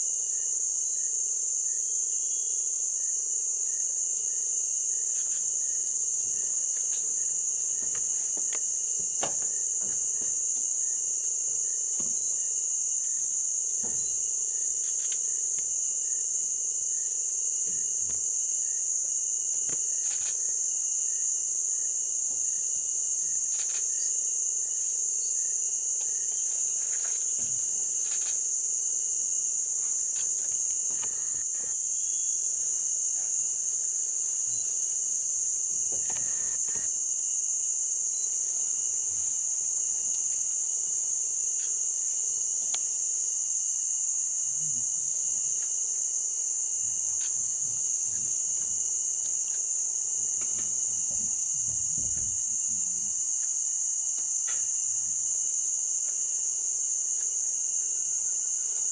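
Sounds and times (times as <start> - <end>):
high-pitched insect chorus: 0.0 - 58.9.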